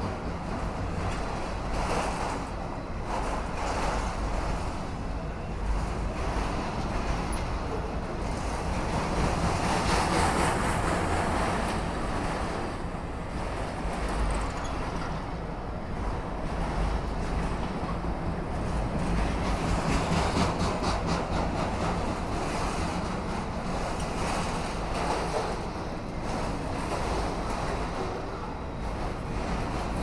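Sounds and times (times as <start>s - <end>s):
steel train wheels on rail: 0.0s - 30.0s.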